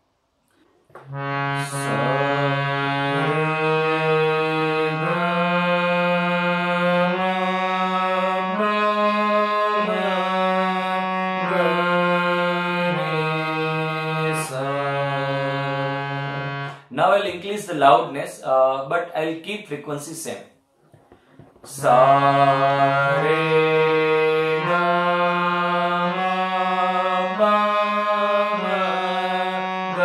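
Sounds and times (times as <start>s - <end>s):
harmonium playing a scale: 1.0s - 17.5s, 21.7s - 30.0s.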